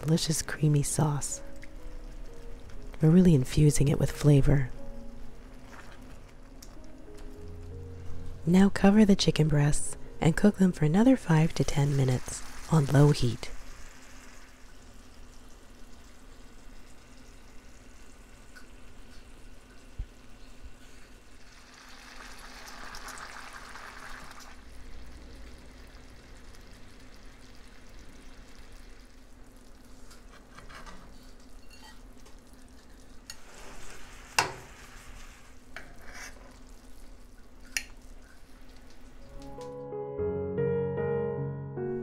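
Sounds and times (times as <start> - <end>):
sauce simmering and sizzling: 0.0 - 8.5, 9.3 - 39.5.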